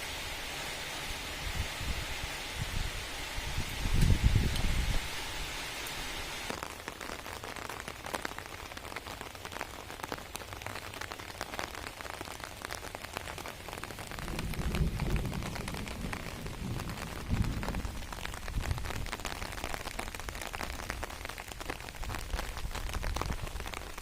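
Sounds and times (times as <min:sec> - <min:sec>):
rain falling: 0:00.0 - 0:24.0
raindrops ticking on surfaces: 0:00.0 - 0:24.0.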